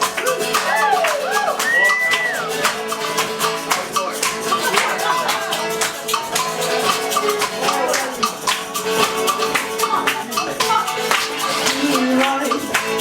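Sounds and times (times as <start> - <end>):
live band playing: 0.0 - 13.0
plucked guitar: 0.0 - 13.0
shaker rhythm: 0.0 - 13.0.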